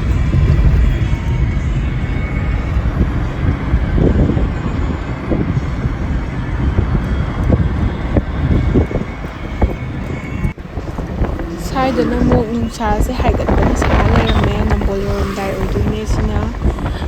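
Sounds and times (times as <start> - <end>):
vehicle road rumble: 0.0 - 17.0
wind buffeting microphone: 0.0 - 17.0.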